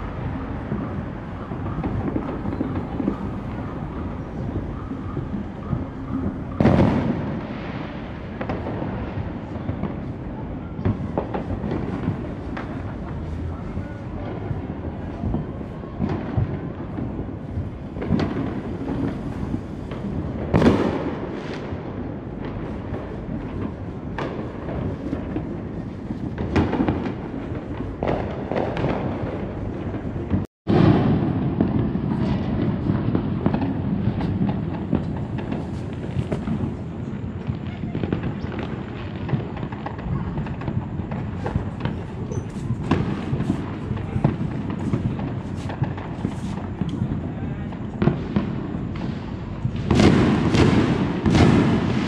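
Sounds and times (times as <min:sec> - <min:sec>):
distant fireworks booms: 0:00.0 - 0:52.0
firework pops and crackles: 0:00.0 - 0:52.0
loud firework bang: 0:00.0 - 0:52.0.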